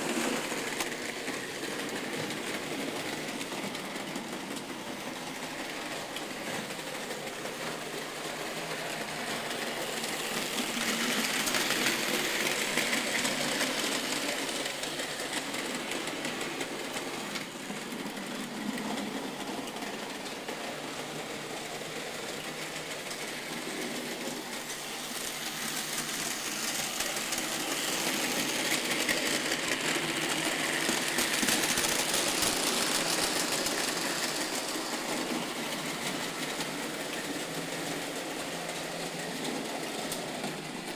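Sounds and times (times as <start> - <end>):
model train motors whirring: 0.0 - 40.9.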